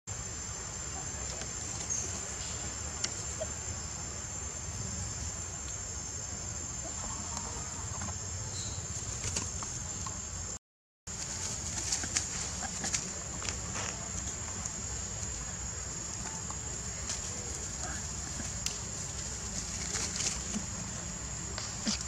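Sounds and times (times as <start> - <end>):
insects droning: 0.1 - 22.0.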